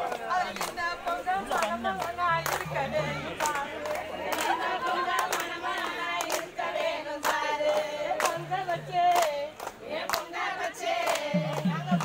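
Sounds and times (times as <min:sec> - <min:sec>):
sharp hand claps: 0:00.0 - 0:10.4, 0:11.0 - 0:12.0
women singing in chorus: 0:00.0 - 0:12.0.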